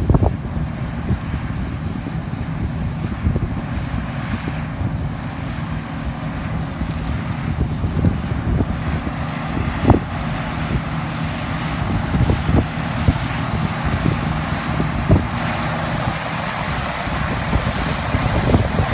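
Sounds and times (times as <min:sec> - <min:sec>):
combine harvester engine drone: 0:00.0 - 0:18.9
wind buffeting microphone: 0:00.0 - 0:18.9.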